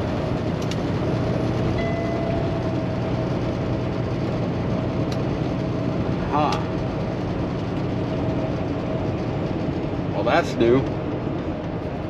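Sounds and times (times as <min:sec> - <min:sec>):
diesel engine running: 0:00.0 - 0:12.0
road and wind noise: 0:00.0 - 0:12.0.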